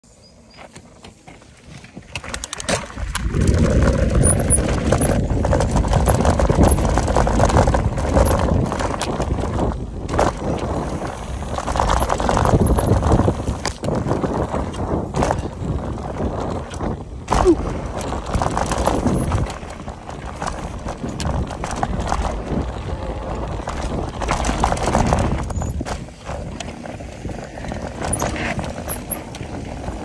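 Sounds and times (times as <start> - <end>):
bike tyres on dirt trail: 0.0 - 30.0
bike rattling and clicking: 0.2 - 30.0.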